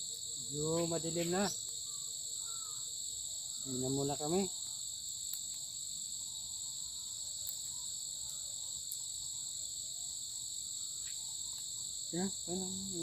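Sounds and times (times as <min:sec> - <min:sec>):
insect chorus shrilling: 0:00.0 - 0:13.0.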